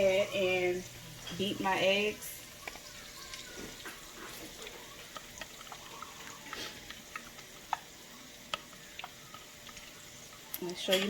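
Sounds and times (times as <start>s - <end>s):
eggs sloshing in a bowl: 0.0s - 11.0s.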